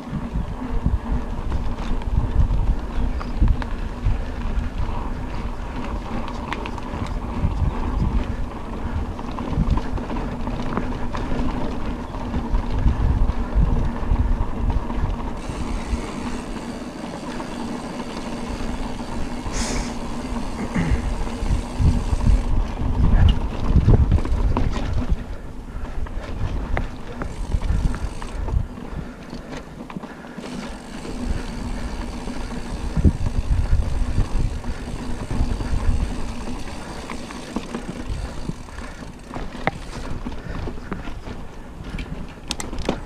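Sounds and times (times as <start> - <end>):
bike rattling over bumps: 0.0 - 43.0
wind rumbling on microphone: 0.0 - 43.0.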